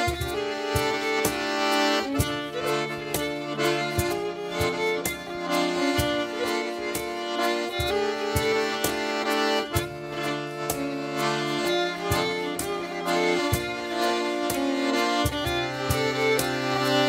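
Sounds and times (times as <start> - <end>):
lively folk dance tune: 0.0 - 17.0
sharp beats: 0.0 - 17.0.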